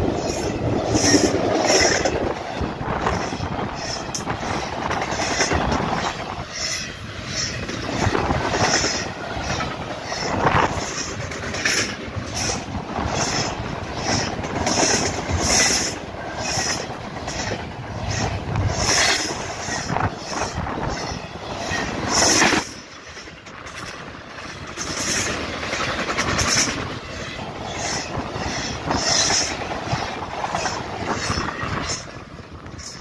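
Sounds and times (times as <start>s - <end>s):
train wheels clacking over rail joints: 0.0s - 33.0s.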